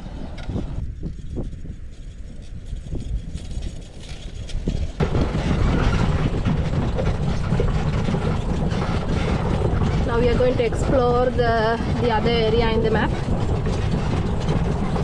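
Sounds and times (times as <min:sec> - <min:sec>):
tyres rumbling on dirt: 0:00.0 - 0:00.8, 0:02.6 - 0:15.0.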